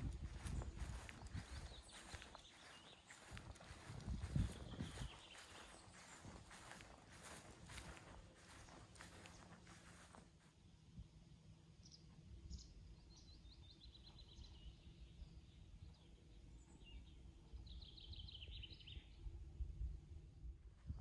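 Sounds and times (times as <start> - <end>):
songbird singing: 0.0 - 10.3, 11.8 - 19.4.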